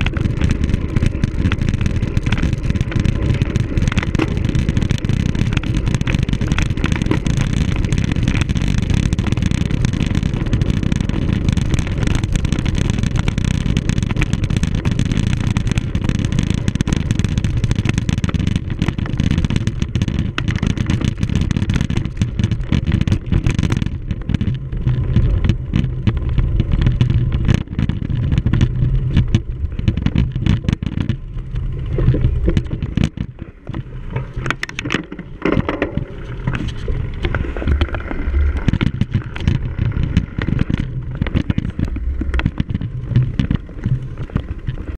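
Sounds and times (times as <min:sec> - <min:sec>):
bike rattling over rough ground: 0:00.0 - 0:44.9
wind rumbling on microphone: 0:00.0 - 0:44.9.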